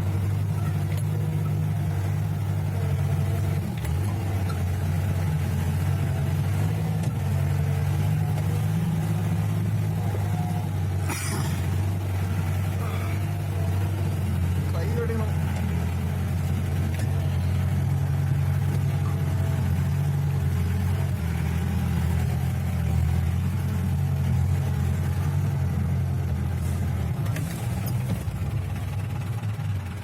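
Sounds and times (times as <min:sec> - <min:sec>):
vehicle engine droning: 0:00.0 - 0:30.0.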